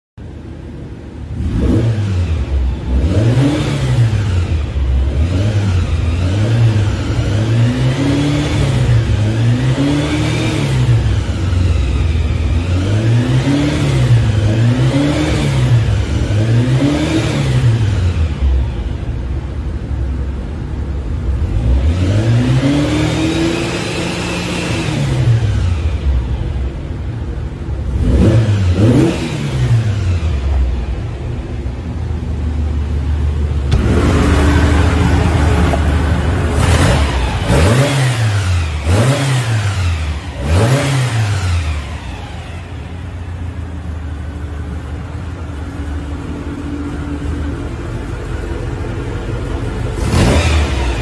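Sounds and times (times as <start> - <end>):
car engine revving: 0.6 - 51.0.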